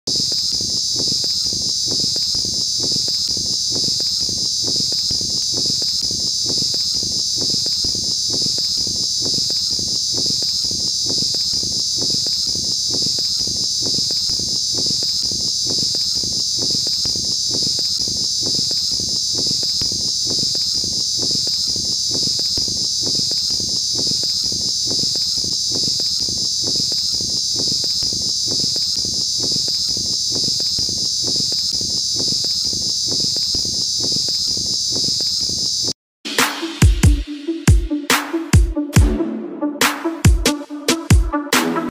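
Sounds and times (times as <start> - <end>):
cicada buzzing: 0.1 - 38.9.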